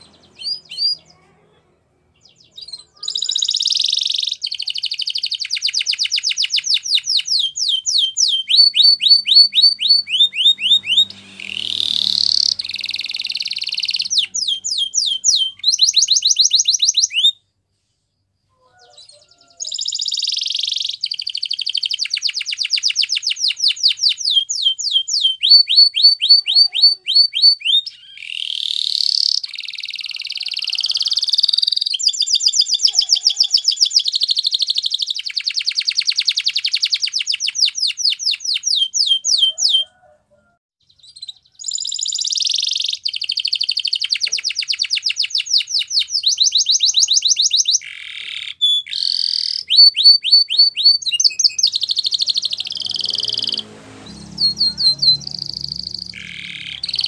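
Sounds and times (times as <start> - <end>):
canary singing trills: 0.0 - 1.3, 2.1 - 17.4, 18.5 - 40.1, 40.8 - 57.0.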